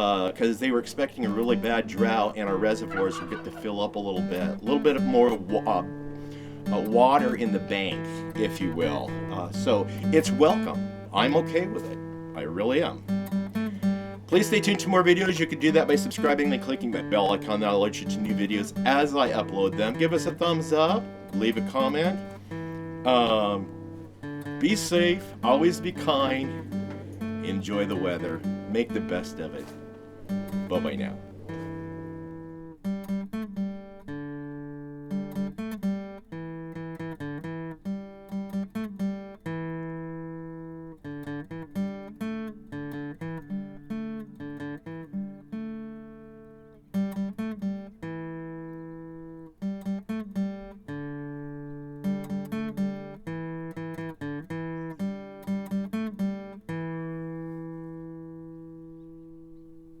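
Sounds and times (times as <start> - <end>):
acoustic guitar music: 0.0 - 60.0.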